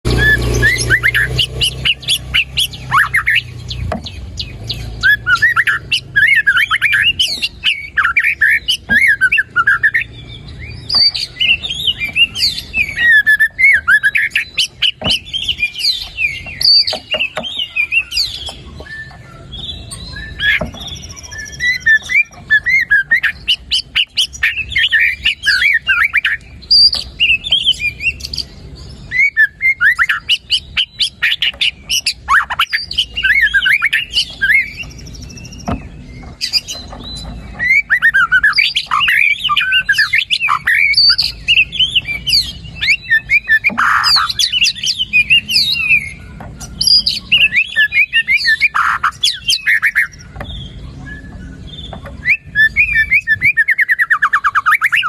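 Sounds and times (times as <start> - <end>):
bird singing whistled phrases: 0.1 - 55.0.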